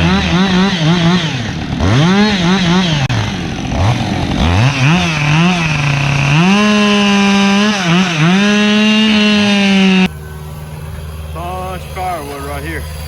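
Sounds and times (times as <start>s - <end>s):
chainsaw revving and cutting wood: 0.0s - 13.0s.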